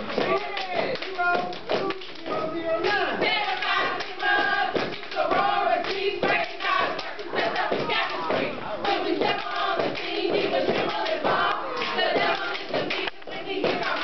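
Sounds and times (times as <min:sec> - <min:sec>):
women singing and chanting in unison: 0:00.0 - 0:14.0.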